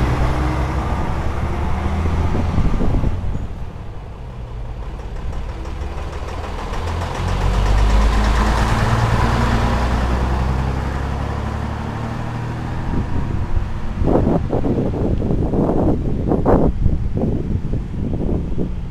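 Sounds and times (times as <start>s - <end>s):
truck diesel engine running: 0.0s - 16.6s.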